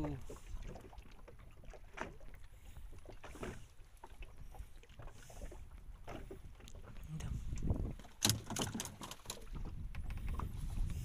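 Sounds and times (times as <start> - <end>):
wind and water rumble: 0.0 - 11.0.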